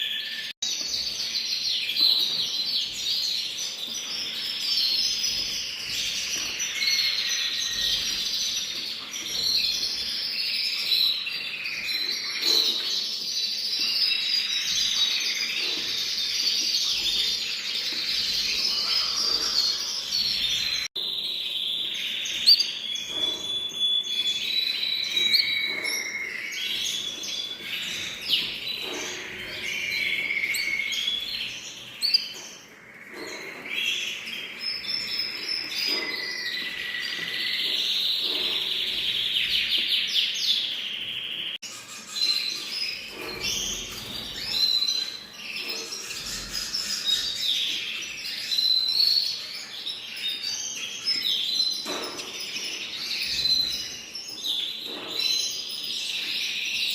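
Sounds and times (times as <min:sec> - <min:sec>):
songbirds singing: 0:00.0 - 0:56.9.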